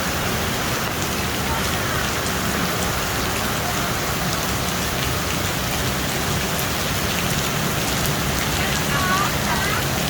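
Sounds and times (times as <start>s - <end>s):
faint rain patters: 0.0s - 10.0s
heavy rain pouring: 0.0s - 10.0s.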